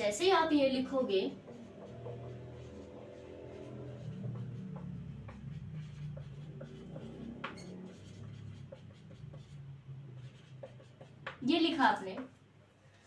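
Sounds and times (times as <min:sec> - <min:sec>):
marker writing on whiteboard: 0:00.9 - 0:12.4.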